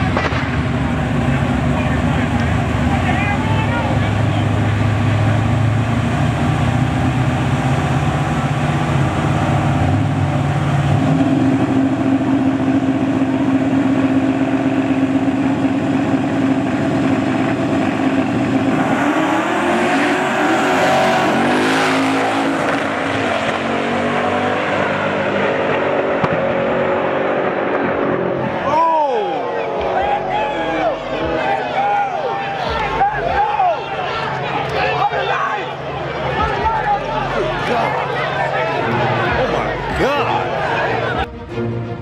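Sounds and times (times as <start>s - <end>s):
drag-race engines rumbling: 0.0s - 42.0s
engines accelerating hard: 0.0s - 42.0s.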